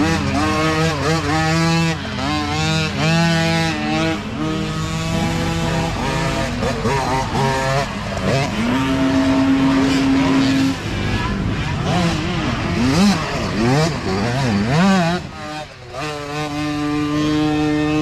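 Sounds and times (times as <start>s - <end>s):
dirt bike engines racing past: 0.0s - 18.0s.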